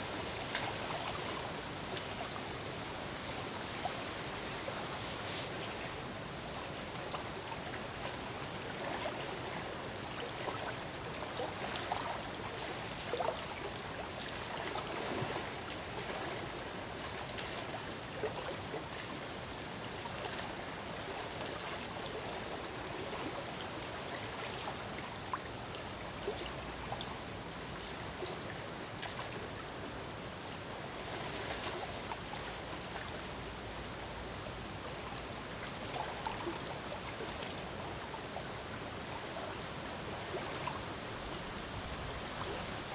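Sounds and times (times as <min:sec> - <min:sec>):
waves lapping against shore: 0:00.0 - 0:42.9.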